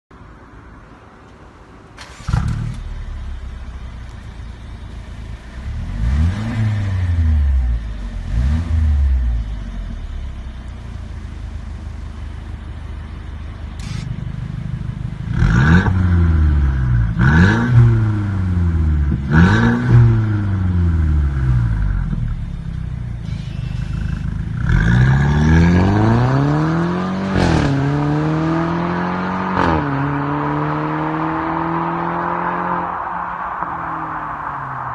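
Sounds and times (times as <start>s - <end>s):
car engine revving and idling: 0.2s - 34.9s
car accelerating and shifting up: 0.9s - 12.3s, 13.5s - 34.9s.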